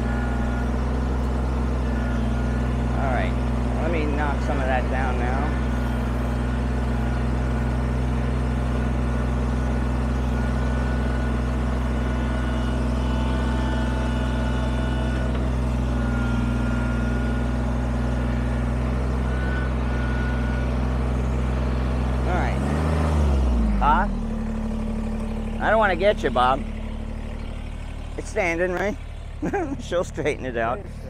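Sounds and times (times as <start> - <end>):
front loader pushing dirt: 0.0 - 31.0
tractor diesel engine running: 0.0 - 31.0.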